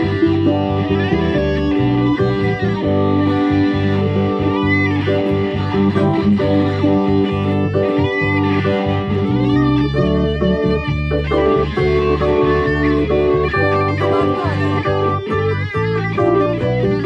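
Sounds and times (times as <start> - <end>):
rock guitar chords: 0.0 - 17.0
sliding lead guitar notes: 0.0 - 17.0.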